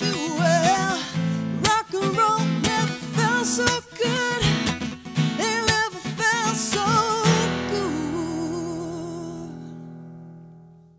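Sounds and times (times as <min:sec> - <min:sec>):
woman singing with vibrato: 0:00.0 - 0:09.9
strummed acoustic guitar: 0:00.0 - 0:10.9.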